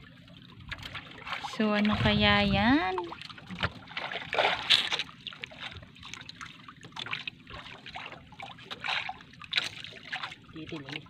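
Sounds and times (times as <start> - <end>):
water splashing against boat hull: 0.1 - 11.0.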